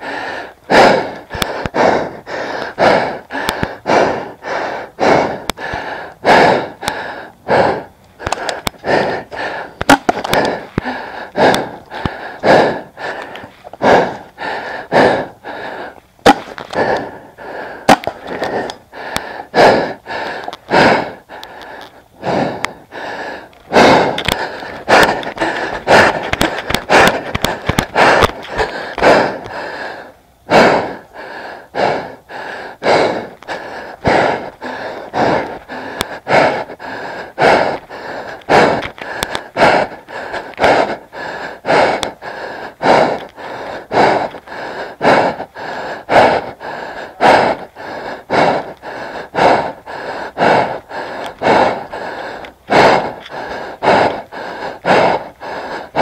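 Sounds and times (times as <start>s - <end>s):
person breathing hard: 0.0s - 56.0s.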